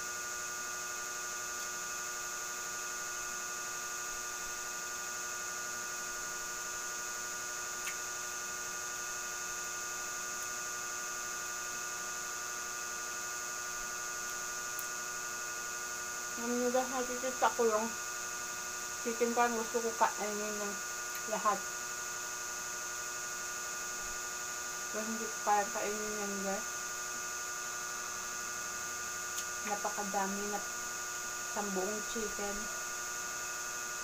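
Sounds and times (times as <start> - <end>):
electrical hum and whine: 0.0 - 34.0.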